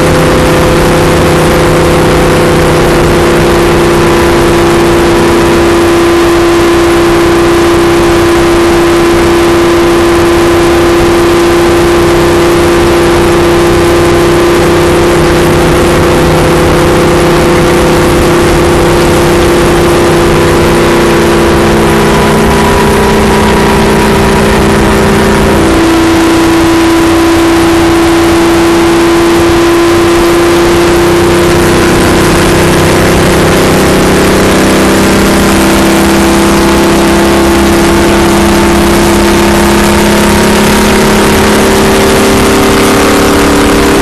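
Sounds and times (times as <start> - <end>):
car engine at high revs: 0.0 - 44.0
wind and road noise: 0.0 - 44.0.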